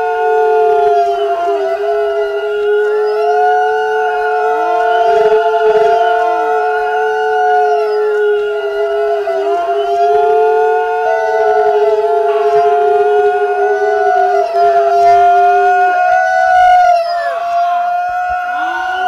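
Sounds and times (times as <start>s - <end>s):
eerie wailing drone: 0.0s - 19.0s.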